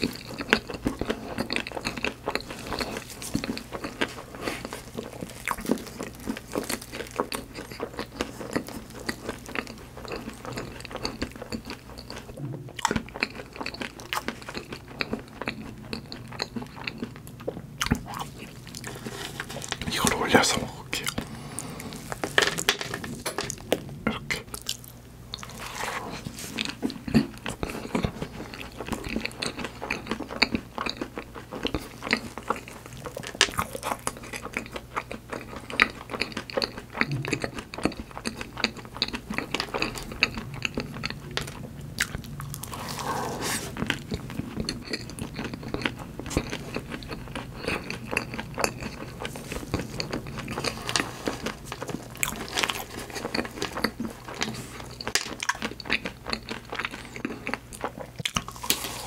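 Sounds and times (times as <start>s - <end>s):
crisp crunching while chewing: 0.0s - 59.0s.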